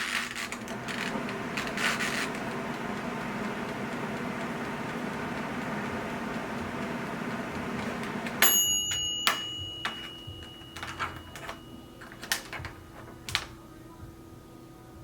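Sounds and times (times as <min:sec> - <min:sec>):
hair dryer whirring: 0:00.0 - 0:12.9.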